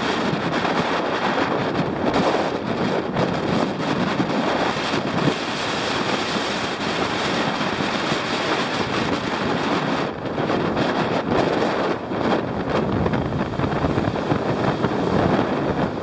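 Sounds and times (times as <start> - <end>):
sea surf: 0.0 - 16.0
wind rushing over microphone: 0.0 - 16.0.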